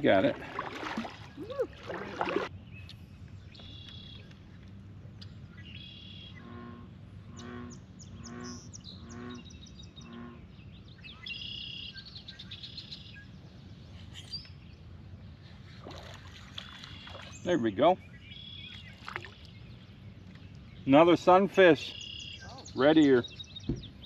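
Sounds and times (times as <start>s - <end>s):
birds chirping: 0.1s - 24.0s.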